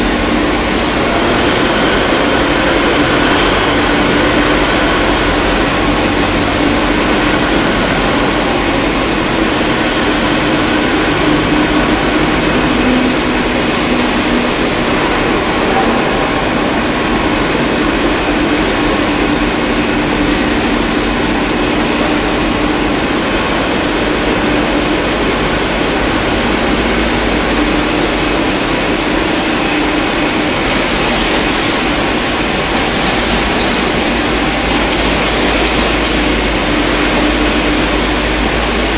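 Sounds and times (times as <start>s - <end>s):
factory machinery running: 0.0s - 38.9s.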